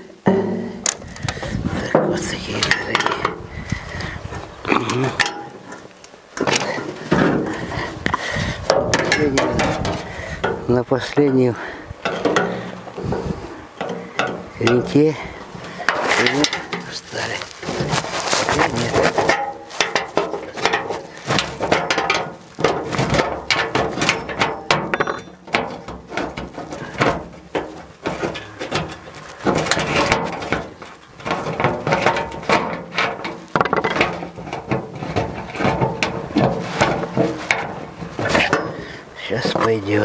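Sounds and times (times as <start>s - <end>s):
sheet metal tray rattling: 5.1s - 40.0s.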